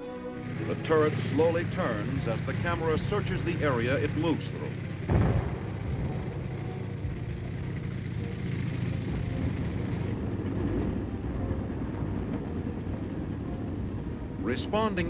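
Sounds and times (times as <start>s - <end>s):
tank engine low rumble: 0.0s - 15.0s.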